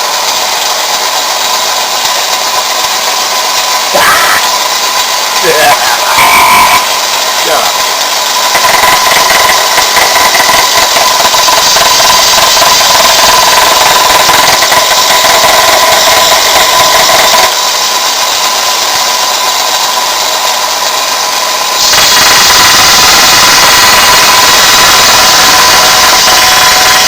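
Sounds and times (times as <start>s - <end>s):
grinder running with high whine: 0.0s - 27.0s.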